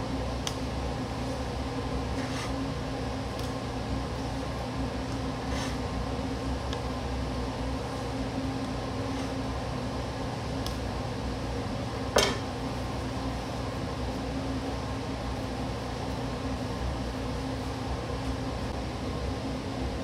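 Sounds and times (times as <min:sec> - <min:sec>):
kitchen machinery humming: 0:00.0 - 0:20.0.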